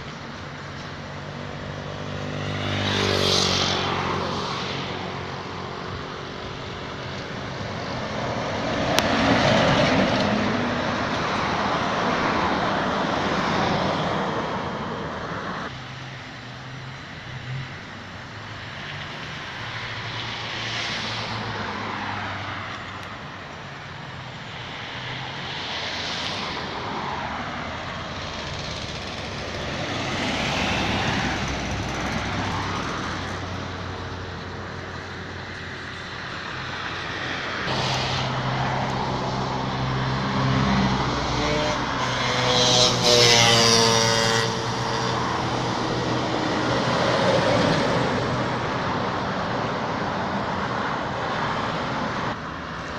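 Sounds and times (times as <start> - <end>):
heavy vehicle engine: 0.0 - 22.0, 22.8 - 52.9
vehicles passing: 0.0 - 52.9.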